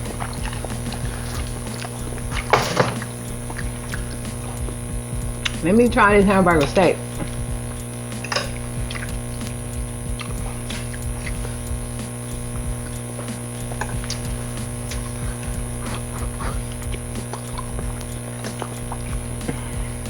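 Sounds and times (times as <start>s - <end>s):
electrical hum: 0.0s - 20.0s
person chewing food: 0.0s - 20.0s.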